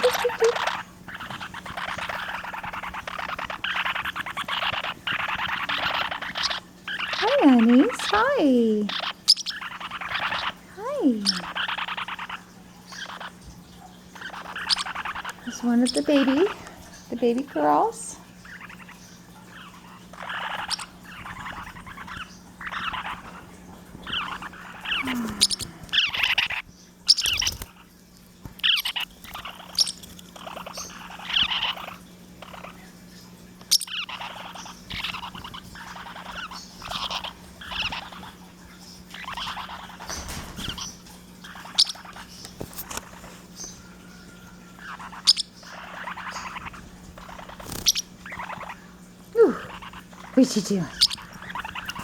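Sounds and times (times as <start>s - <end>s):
small parrots chirping: 0.0s - 52.0s.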